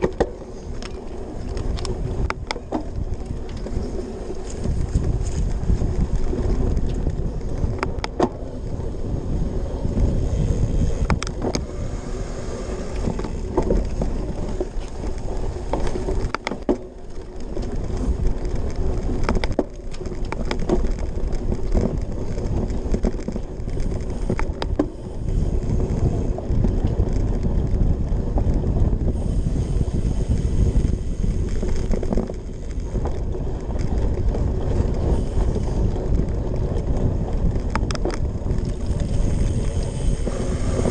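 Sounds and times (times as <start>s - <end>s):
bike rattling and clicking: 0.0s - 40.9s
bike tyres rumbling on grass: 0.0s - 40.9s.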